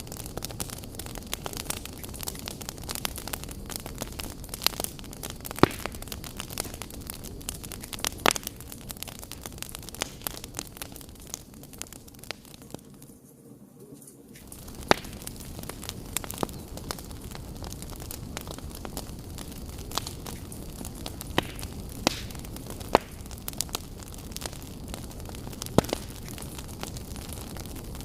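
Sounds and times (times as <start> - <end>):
fire crackling with pops and snaps: 0.0 - 28.0
fire low rumble and hiss: 0.0 - 28.0.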